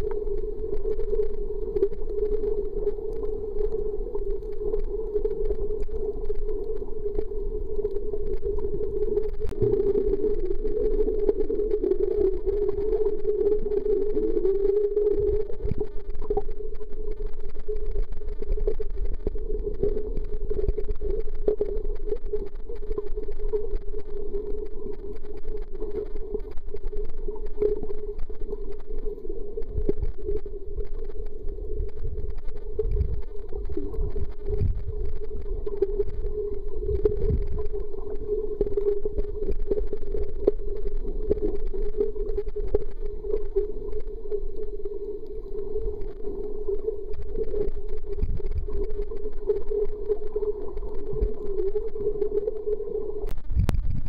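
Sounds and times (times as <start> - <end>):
muffled underwater drone: 0.0 - 54.0.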